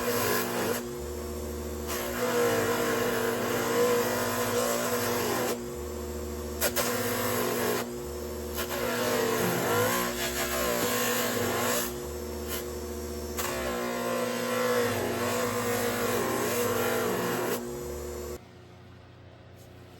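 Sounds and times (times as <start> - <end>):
power tool motor running: 0.0 - 18.4
power tool rasping against metal: 0.0 - 18.4.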